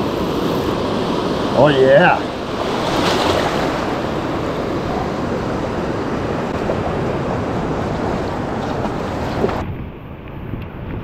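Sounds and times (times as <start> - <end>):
surf breaking and washing: 0.0 - 11.0.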